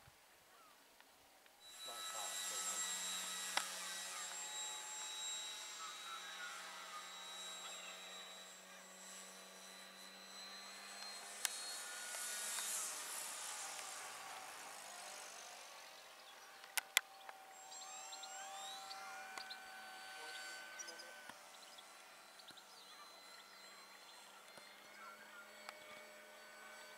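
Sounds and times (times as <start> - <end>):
model aeroplane motor whining: 1.4 - 26.9.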